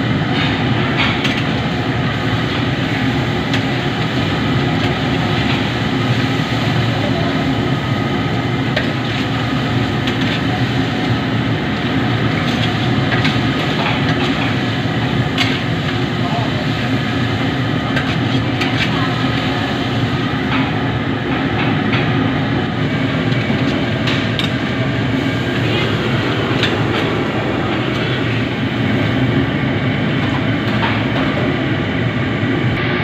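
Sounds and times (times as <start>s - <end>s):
wok burner rumbling: 0.0s - 33.0s
seafood sizzling in wok: 0.1s - 21.4s, 22.2s - 32.0s.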